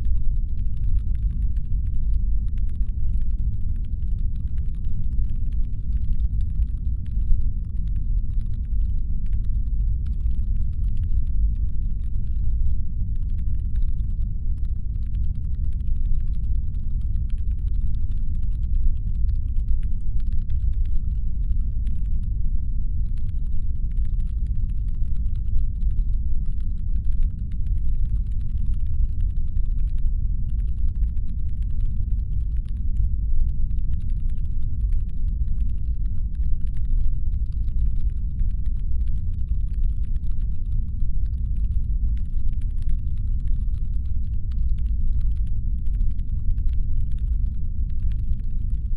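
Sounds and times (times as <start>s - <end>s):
rapid irregular clicking: 0.0s - 22.4s, 23.0s - 48.9s.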